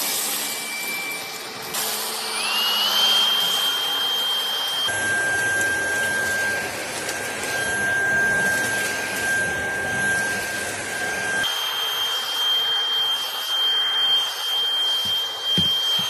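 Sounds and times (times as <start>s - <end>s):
stick vacuum whine: 0.0s - 16.0s.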